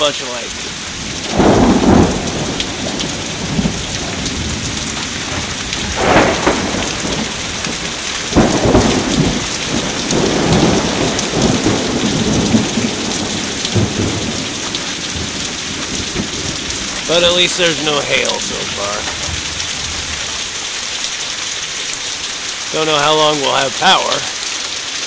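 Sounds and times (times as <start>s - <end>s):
thunder rumbling: 0.0s - 21.1s
steady rain: 0.0s - 25.0s.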